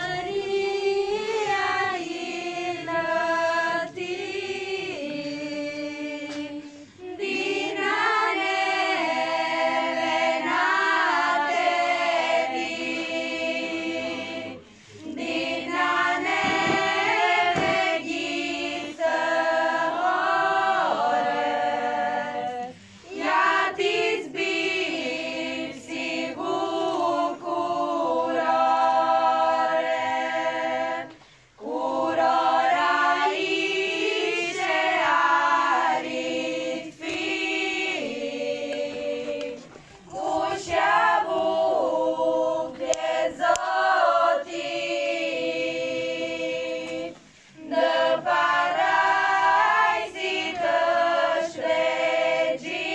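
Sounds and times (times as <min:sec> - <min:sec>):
choir of women singing: 0:00.0 - 0:52.9.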